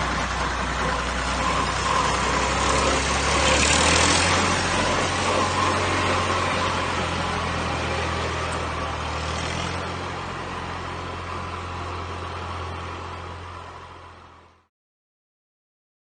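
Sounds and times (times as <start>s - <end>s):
tractor diesel engine running: 0.0s - 14.7s.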